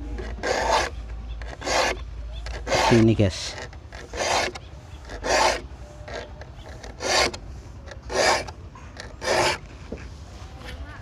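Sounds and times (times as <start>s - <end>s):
file rasping on saw teeth: 0.2s - 9.6s.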